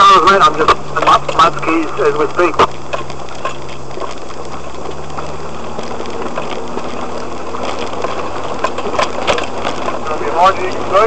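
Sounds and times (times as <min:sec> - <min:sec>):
vehicle engine running: 0:00.0 - 0:11.0
vehicle knocks and rattles: 0:00.0 - 0:11.0.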